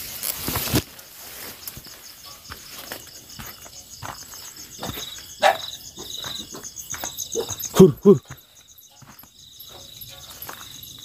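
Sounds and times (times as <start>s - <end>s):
crickets chirping: 0.0s - 11.0s
footsteps on ground: 0.0s - 11.0s.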